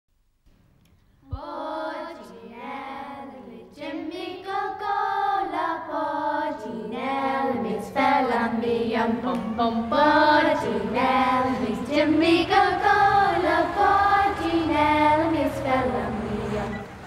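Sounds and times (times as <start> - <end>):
children singing: 1.3 - 17.0.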